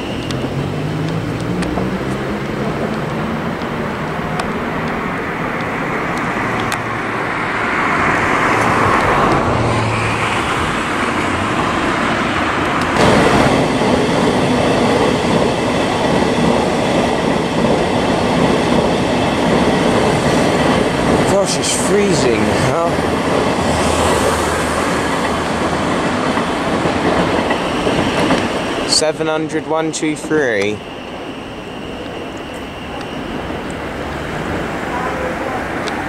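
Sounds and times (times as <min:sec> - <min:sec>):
trains rumbling on rails: 0:00.0 - 0:36.0.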